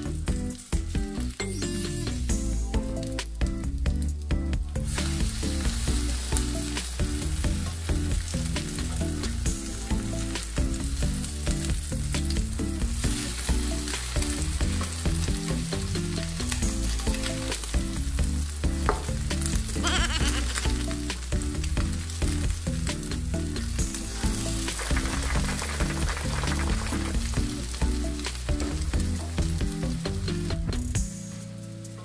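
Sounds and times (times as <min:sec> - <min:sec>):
patties sizzling in hot oil: 0:00.0 - 0:32.0.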